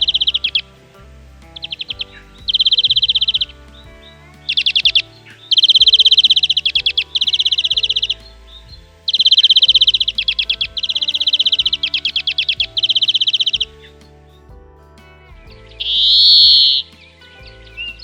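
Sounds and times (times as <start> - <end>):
finch trilling song: 0.0 - 18.0
soft music: 0.0 - 18.0.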